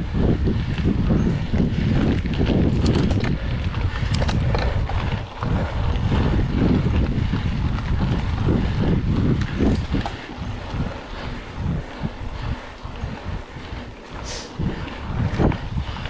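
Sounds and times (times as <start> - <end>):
bike tyres on rough road: 0.0 - 16.0
wind buffeting microphone: 0.0 - 16.0.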